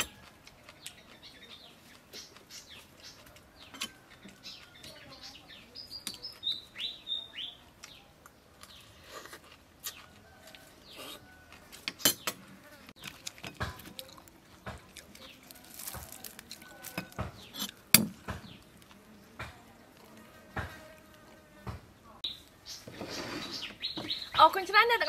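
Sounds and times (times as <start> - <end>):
chewing: 0.0 - 6.8, 7.7 - 21.8
small birds chirping: 0.0 - 25.0.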